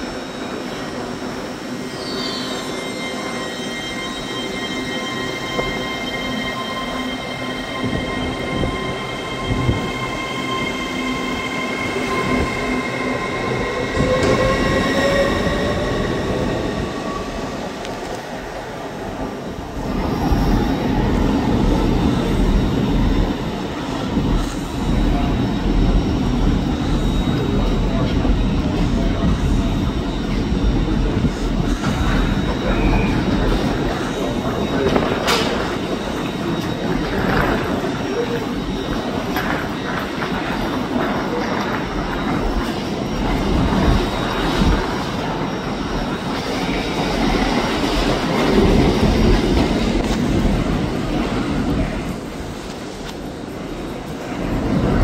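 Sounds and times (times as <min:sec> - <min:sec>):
train rumbling in: 0:00.0 - 0:55.0.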